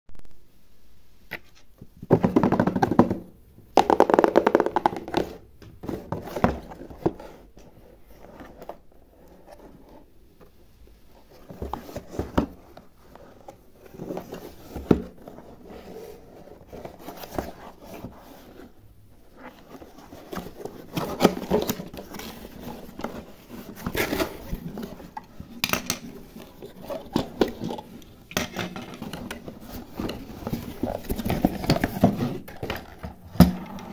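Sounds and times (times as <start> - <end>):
hands tapping and scraping objects: 1.3 - 10.6, 11.3 - 33.9
rustling: 4.0 - 33.9.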